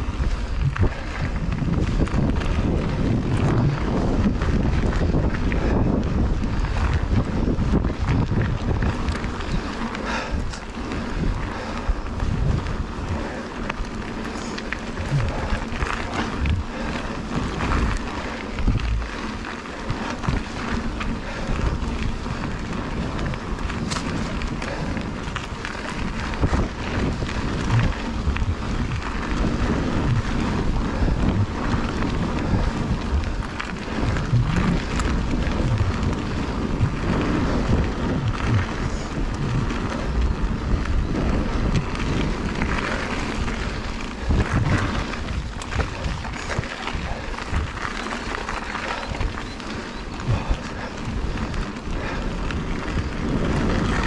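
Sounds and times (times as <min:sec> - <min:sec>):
bike rattling over bumps: 0:00.0 - 0:54.0
tyre noise on dirt: 0:00.0 - 0:54.0
wind buffeting microphone: 0:00.0 - 0:54.0.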